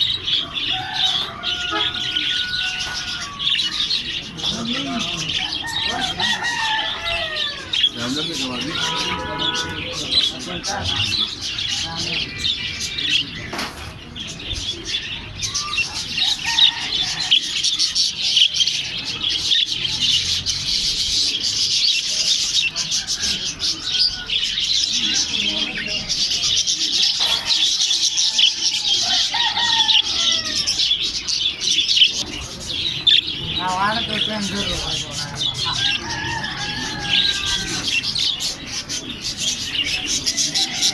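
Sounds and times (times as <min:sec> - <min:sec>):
parrots chirping and chattering: 0:00.0 - 0:40.9.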